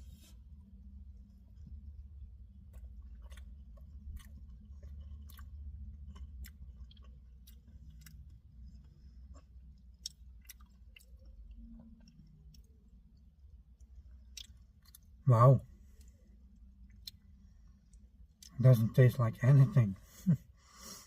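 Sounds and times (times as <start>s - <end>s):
low steady hum: 0.0s - 21.0s
person chewing food: 0.1s - 18.6s.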